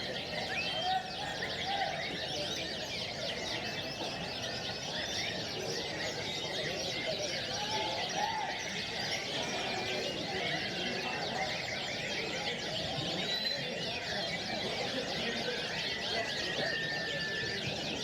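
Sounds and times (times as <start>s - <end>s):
canaries singing: 0.0s - 18.0s
murmur of voices: 0.0s - 18.0s.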